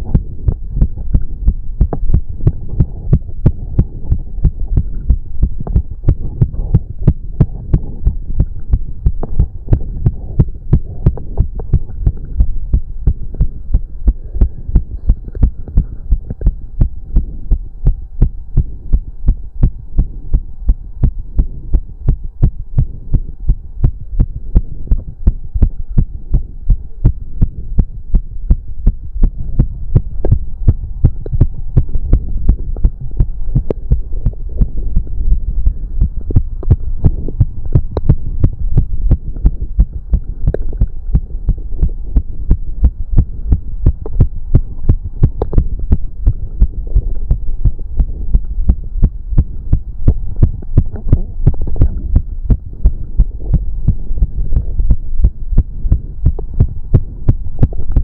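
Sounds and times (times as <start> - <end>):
fast heartbeat: 0.0 - 58.0
steady hum: 0.0 - 58.0.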